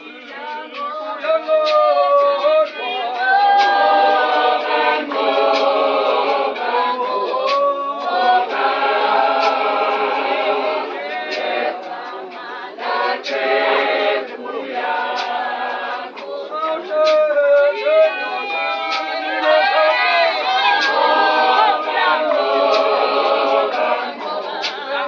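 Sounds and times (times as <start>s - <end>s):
congregation singing a hymn: 0.0s - 25.0s
sharp beats: 1.6s - 25.0s.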